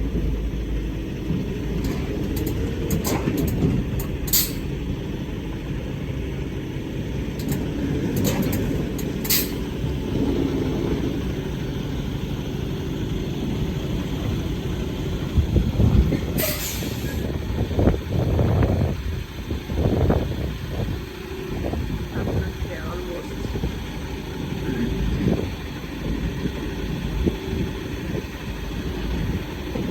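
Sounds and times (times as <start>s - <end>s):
truck engine running: 0.0s - 29.9s.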